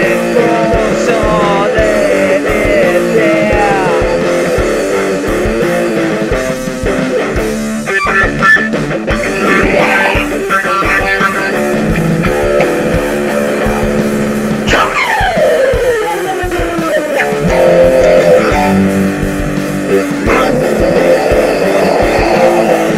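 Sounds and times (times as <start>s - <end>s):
loud rock music: 0.0s - 22.9s.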